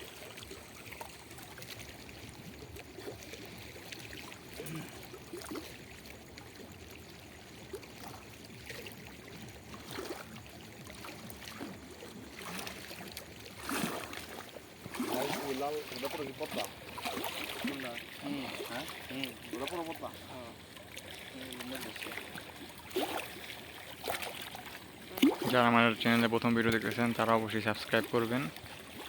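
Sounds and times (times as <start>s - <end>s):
river water running: 0.0s - 29.0s
small knocks and splashes: 0.0s - 29.0s.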